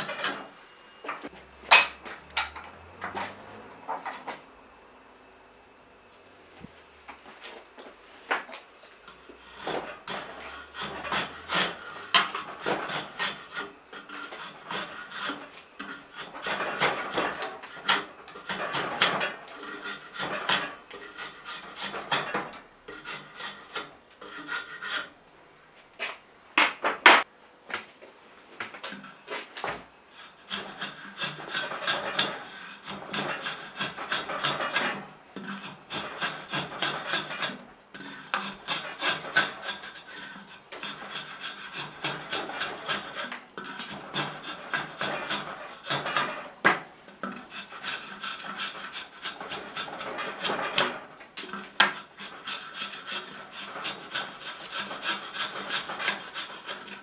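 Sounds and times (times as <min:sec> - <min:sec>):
rasp scraping wood: 0:00.0 - 0:00.5, 0:01.1 - 0:04.4, 0:07.4 - 0:25.2, 0:28.6 - 0:57.0.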